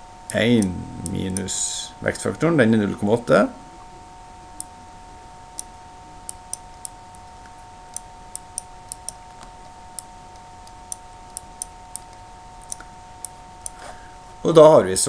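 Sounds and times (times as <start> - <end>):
steady two-tone hum: 0.0 - 15.0.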